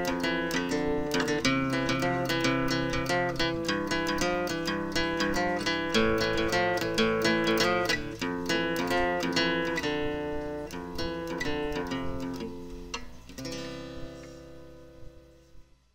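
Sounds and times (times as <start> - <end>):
acoustic guitar music: 0.0 - 15.9.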